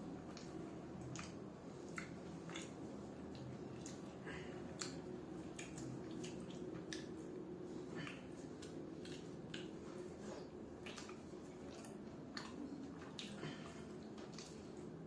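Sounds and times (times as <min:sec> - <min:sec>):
faint low hum: 0:00.0 - 0:15.0
wet chewing and lip smacks: 0:00.1 - 0:15.0.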